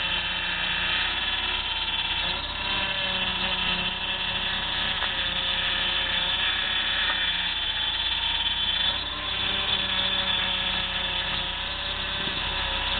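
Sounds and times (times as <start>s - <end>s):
power steering pump whine: 0.0s - 12.9s.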